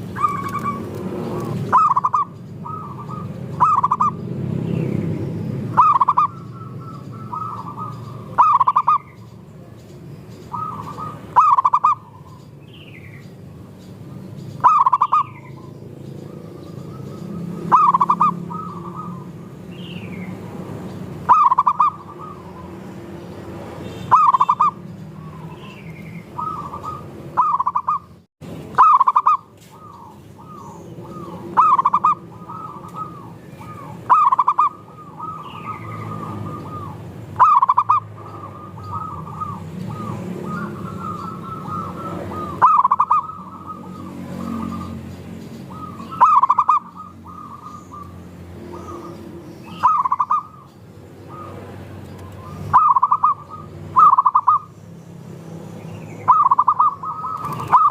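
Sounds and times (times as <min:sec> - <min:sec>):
doves cooing: 0:00.0 - 0:09.4, 0:10.4 - 0:12.6, 0:13.5 - 0:23.1, 0:24.1 - 0:54.7, 0:56.2 - 0:57.9.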